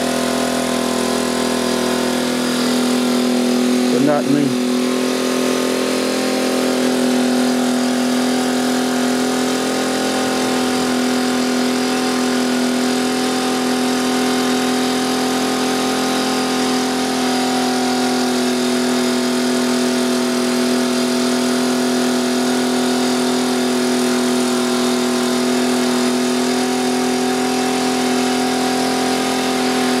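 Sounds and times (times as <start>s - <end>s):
generator running: 0.0s - 30.0s.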